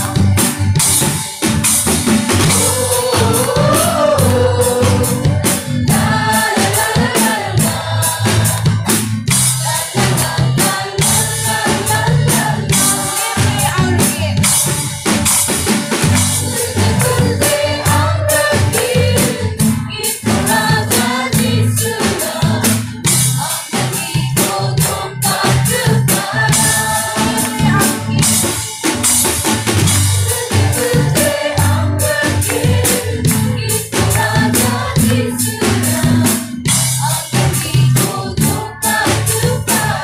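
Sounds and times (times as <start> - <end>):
acoustic guitar: 0.0 - 40.0
drum kit: 0.0 - 40.0
group singing gospel song: 0.0 - 40.0.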